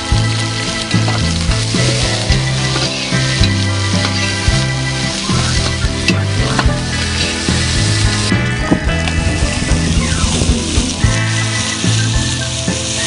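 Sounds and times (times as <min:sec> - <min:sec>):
background music with bass: 0:00.0 - 0:13.0
onions sizzling in oil: 0:00.1 - 0:08.3, 0:10.0 - 0:13.0.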